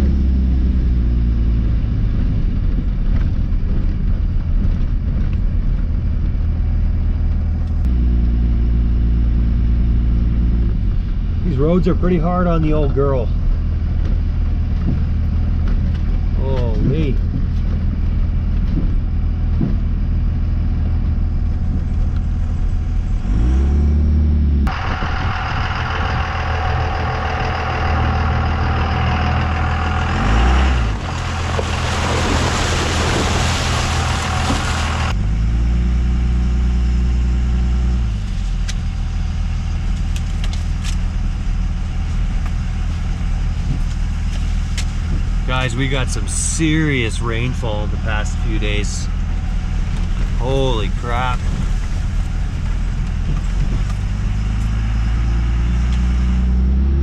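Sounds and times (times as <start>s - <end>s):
truck engine revving: 0.0s - 3.8s, 7.5s - 57.0s
tyre and road noise: 0.0s - 57.0s.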